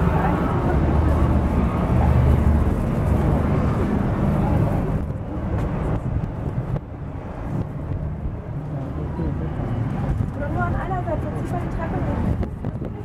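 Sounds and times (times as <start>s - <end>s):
wind on microphone: 0.0s - 8.6s, 9.5s - 13.0s
distant motor traffic rumble: 0.0s - 13.0s.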